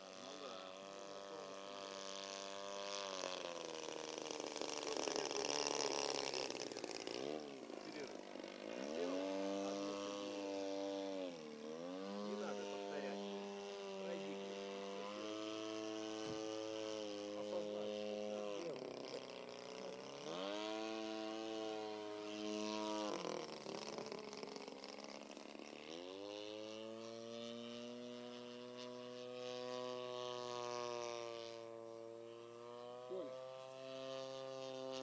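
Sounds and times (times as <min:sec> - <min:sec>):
model plane engine in flight: 0:00.0 - 0:35.0.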